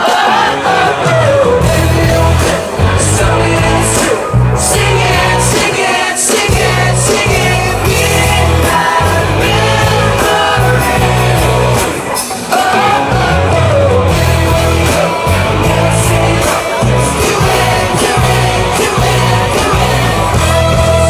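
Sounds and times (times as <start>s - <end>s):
lead vocals singing: 0.0s - 21.0s
pop-rock band playing: 0.0s - 21.0s
drums with cymbals: 0.9s - 21.0s
pulsing bass line: 1.0s - 21.0s.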